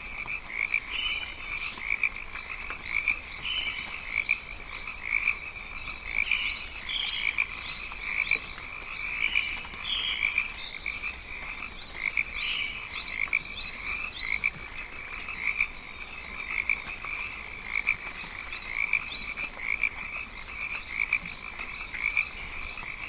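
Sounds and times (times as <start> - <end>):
chorus of frogs croaking: 0.0 - 23.0.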